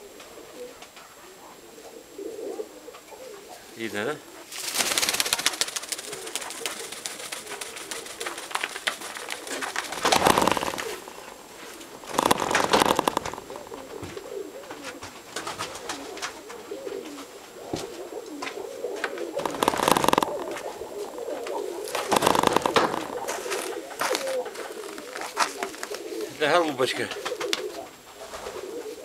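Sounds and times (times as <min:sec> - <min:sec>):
pigeons cooing: 0:00.0 - 0:29.0
wing flurries: 0:00.0 - 0:29.0.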